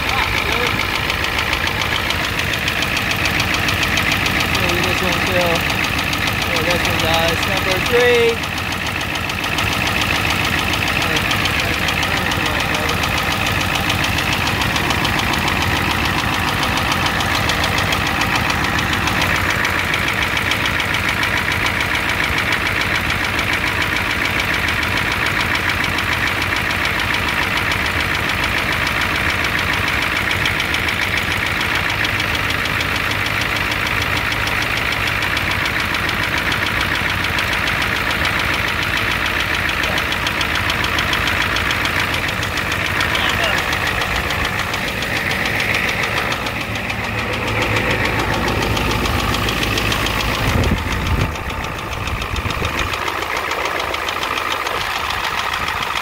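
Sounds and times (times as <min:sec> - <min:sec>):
diesel engine idling with knocking: 0:00.0 - 0:56.0.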